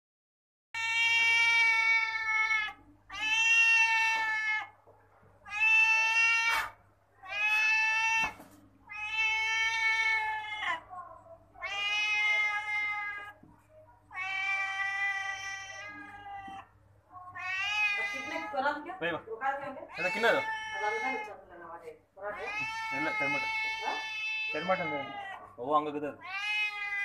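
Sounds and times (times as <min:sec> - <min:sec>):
cat meowing: 0:00.8 - 0:04.8, 0:05.4 - 0:13.5, 0:14.1 - 0:19.2, 0:19.8 - 0:21.4, 0:22.2 - 0:27.0.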